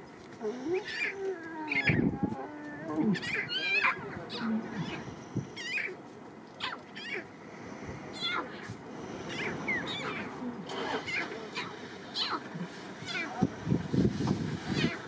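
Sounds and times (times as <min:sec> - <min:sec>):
lion cubs mewing: 0:00.4 - 0:06.0, 0:06.6 - 0:07.4, 0:08.1 - 0:13.8, 0:14.4 - 0:15.0.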